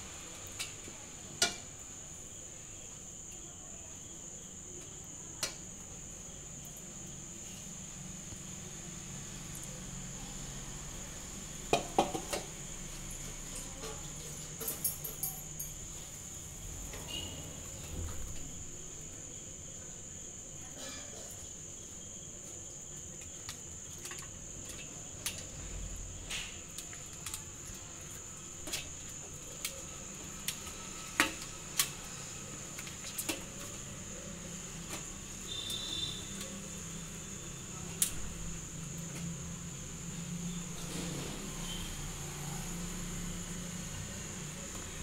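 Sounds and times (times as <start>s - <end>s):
cricket chirring: 0.0s - 45.0s.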